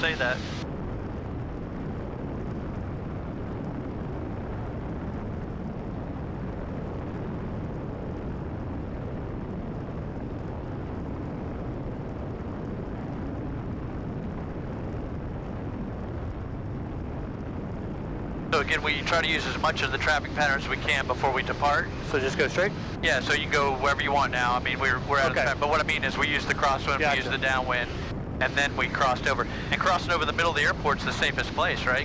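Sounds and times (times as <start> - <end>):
airplane engine and propeller drone: 0.0 - 32.0.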